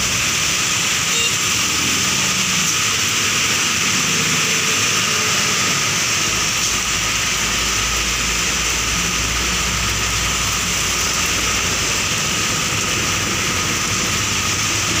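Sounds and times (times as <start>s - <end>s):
heavy rain on wet road: 0.0s - 15.0s
truck engine rumble: 0.0s - 15.0s.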